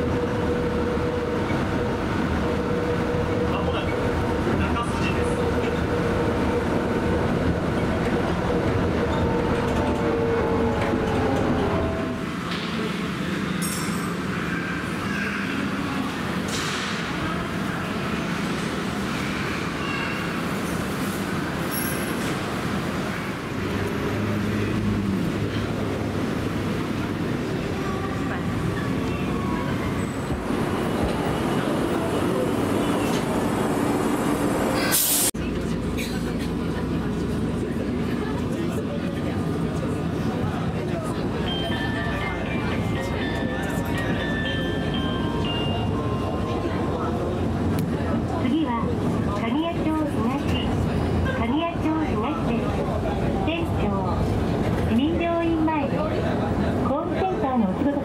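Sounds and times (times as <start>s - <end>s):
train car interior rumble: 0.0s - 58.0s.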